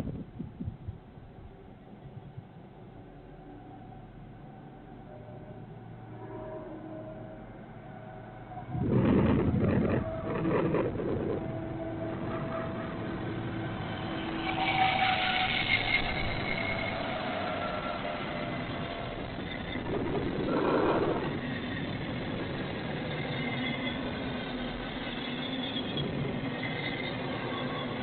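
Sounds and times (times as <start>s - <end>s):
train rumbling by: 0.0s - 28.0s.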